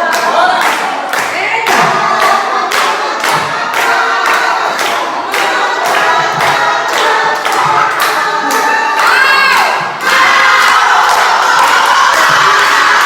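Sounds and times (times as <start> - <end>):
group of people singing: 0.0 - 13.0
people clapping a steady beat: 0.0 - 13.0.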